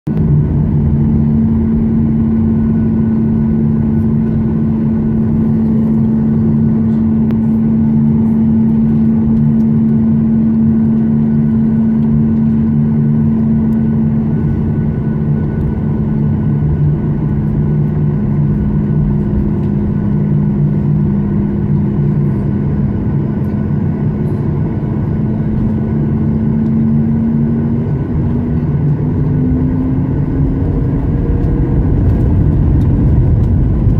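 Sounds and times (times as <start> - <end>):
jet engines humming and roaring: 0.1 - 33.9.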